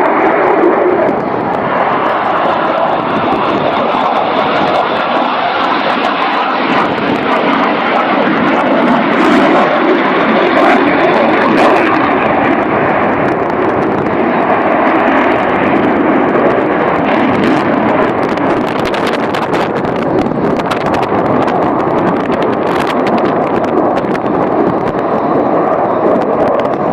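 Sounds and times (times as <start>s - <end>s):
aircraft engine noise: 0.0s - 26.9s.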